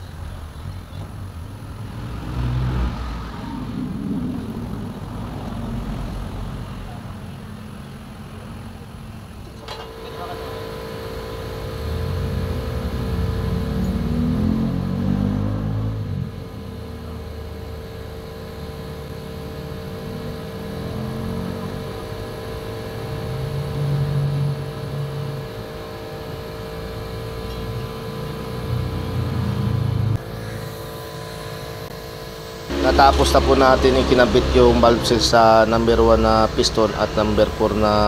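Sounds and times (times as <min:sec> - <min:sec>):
motor engine running unevenly: 0:00.0 - 0:38.0.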